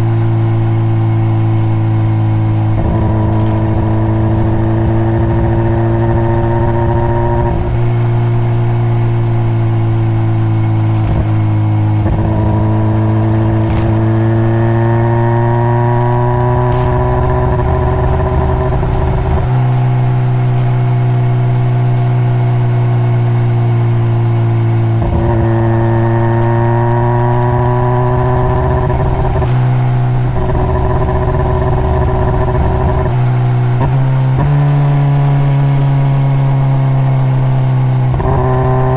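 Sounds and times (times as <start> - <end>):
motorcycle engine changing gears: 2.0 - 23.8, 24.4 - 38.9.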